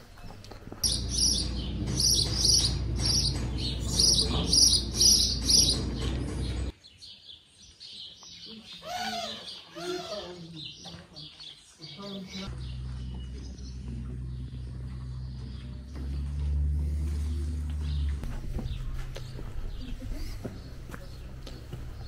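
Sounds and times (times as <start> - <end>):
bird chirping: 0.8 - 22.0.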